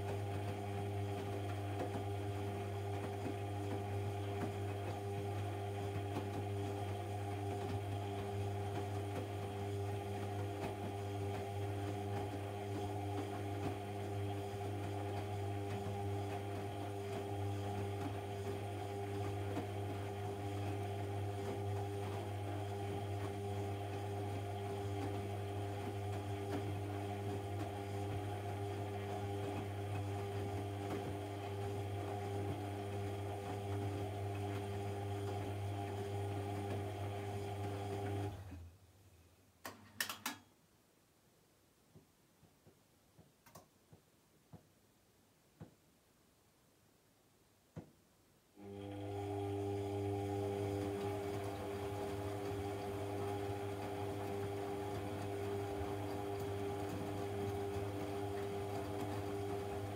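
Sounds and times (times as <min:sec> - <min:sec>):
washing machine humming: 0:00.0 - 0:38.7, 0:48.6 - 0:59.9.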